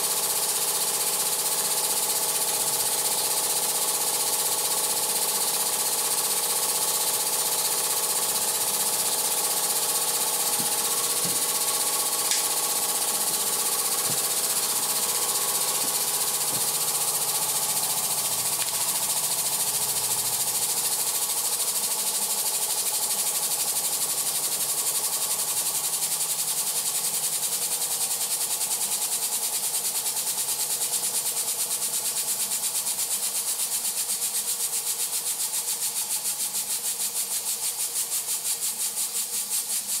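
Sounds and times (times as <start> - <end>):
toy steam engine chuffing and hissing: 0.0 - 40.0.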